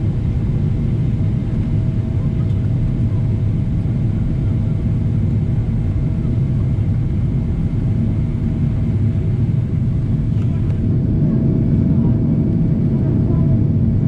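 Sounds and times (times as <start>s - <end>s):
engine rumble and rushing air: 0.0s - 14.0s.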